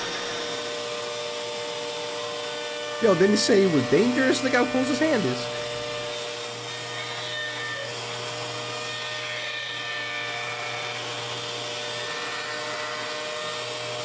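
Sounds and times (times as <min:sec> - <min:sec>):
router bit cutting wood hiss: 0:00.0 - 0:14.0
router whining: 0:00.0 - 0:14.0.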